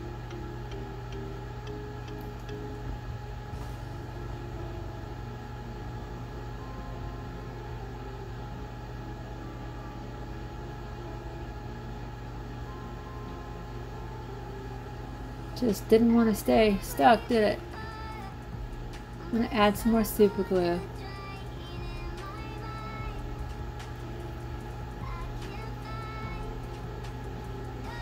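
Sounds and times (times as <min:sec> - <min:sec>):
faint steady tones: 0:00.0 - 0:28.0
steady low hum: 0:00.0 - 0:28.0.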